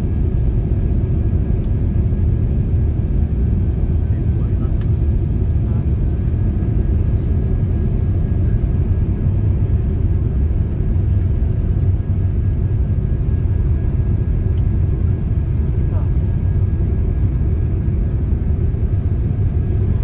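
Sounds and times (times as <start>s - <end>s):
airplane cabin engine and airflow noise: 0.0s - 20.0s.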